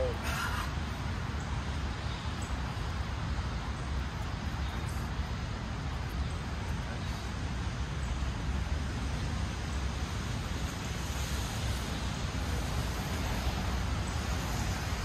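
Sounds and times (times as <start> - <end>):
city traffic: 0.0 - 15.0.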